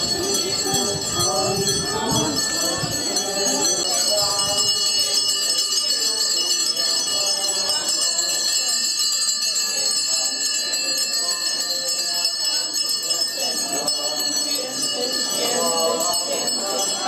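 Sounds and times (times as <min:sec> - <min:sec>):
hand bells jingling: 0:00.0 - 0:17.0
many voices: 0:00.0 - 0:17.0.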